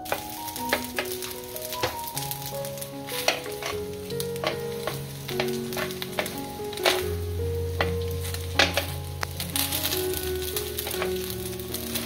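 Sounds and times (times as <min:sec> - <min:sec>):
ribs sizzling in oil: 0:00.0 - 0:12.0
sharp pops of frying oil: 0:00.0 - 0:12.0
soft background music: 0:00.0 - 0:12.0.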